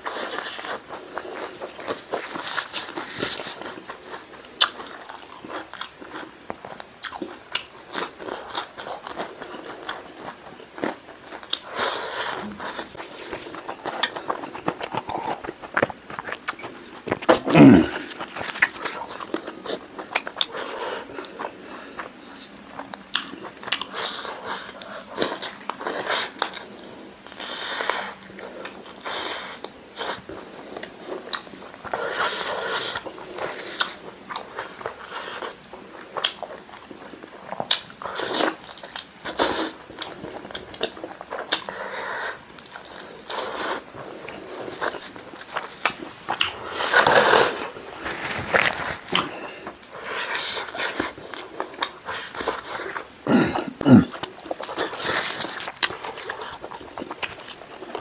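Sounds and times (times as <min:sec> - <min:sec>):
chewing and crunching chicken: 0:00.0 - 0:53.3, 0:54.1 - 0:58.0.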